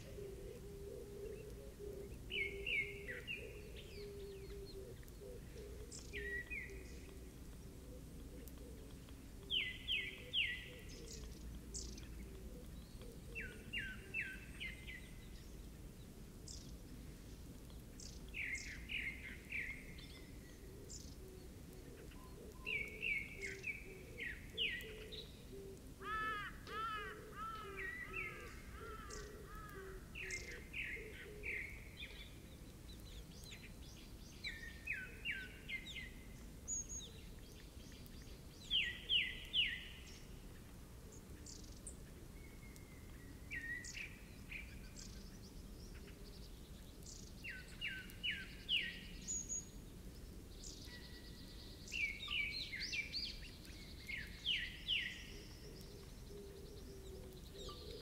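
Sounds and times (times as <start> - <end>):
songbirds singing and calling: 0.0 - 58.0.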